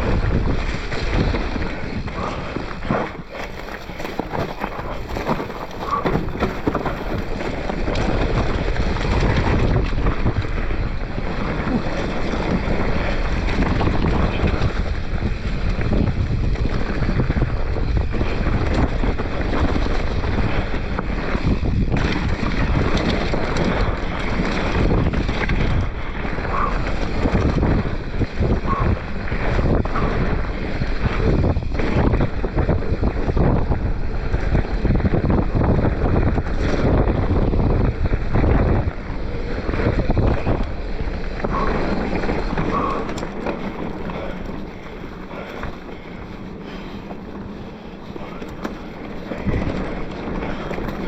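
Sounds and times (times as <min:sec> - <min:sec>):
bike rattling and knocking: 0:00.0 - 0:51.0
tyres rumbling over dirt: 0:00.0 - 0:51.0
wind rushing over microphone: 0:00.0 - 0:51.0.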